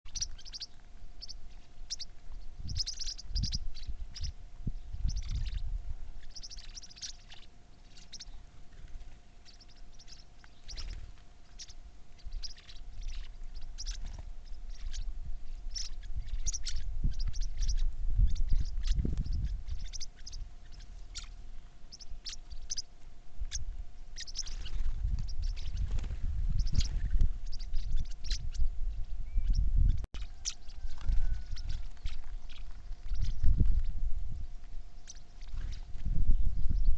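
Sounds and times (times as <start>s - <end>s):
birds chirping: 0.1s - 36.9s
faint steady hum: 0.1s - 36.9s.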